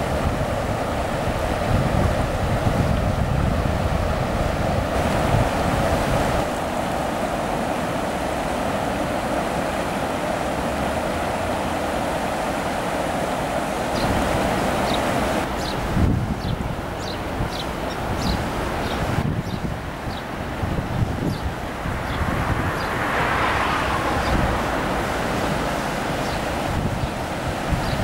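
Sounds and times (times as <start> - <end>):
floodwater rushing: 0.0 - 28.0
wind buffeting microphone: 0.0 - 28.0.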